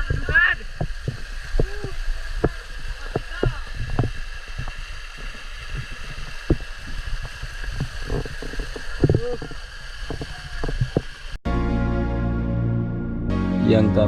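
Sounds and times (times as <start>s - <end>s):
small water splashes: 0.0s - 11.4s
water gurgles: 0.0s - 11.4s
water rushing: 0.0s - 11.4s.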